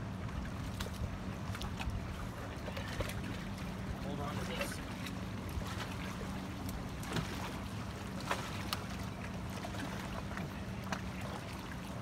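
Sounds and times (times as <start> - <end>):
sharp water splashes: 0.0 - 12.0
water lapping at shoreline: 0.0 - 12.0.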